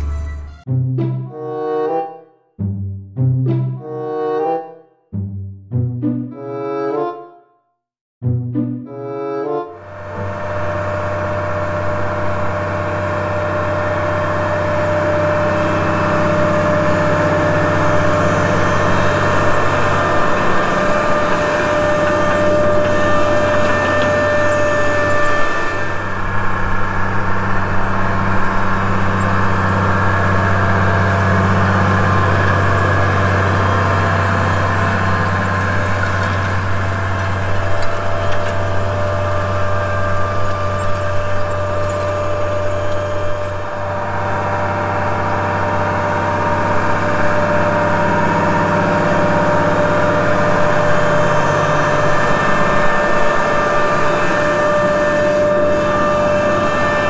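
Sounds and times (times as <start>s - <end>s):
tractor engine droning under load: 8.2s - 57.0s.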